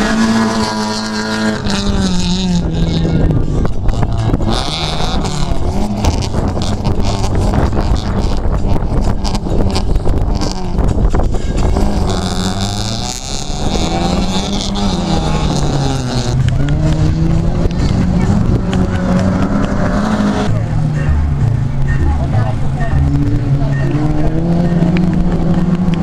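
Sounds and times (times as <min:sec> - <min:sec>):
car engine revving hard: 0:00.0 - 0:26.0.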